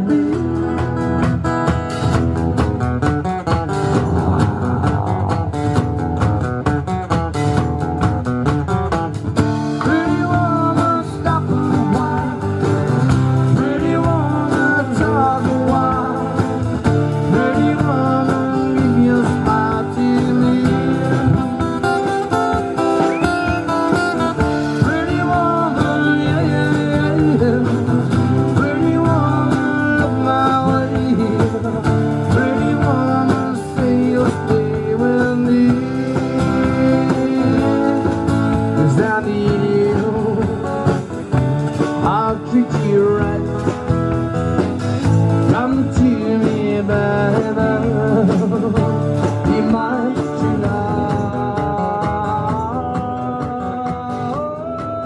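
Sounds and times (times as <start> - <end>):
man singing: 0.0 - 6.6, 9.5 - 41.3, 41.9 - 55.0
drum kit: 0.0 - 55.0
strummed acoustic guitar: 0.0 - 55.0.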